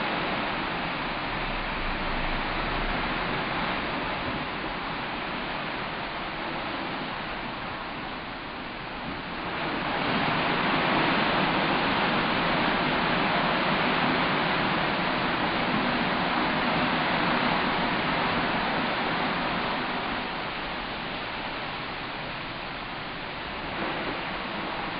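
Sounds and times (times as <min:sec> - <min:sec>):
seawater rushing and churning: 0:00.0 - 0:24.9.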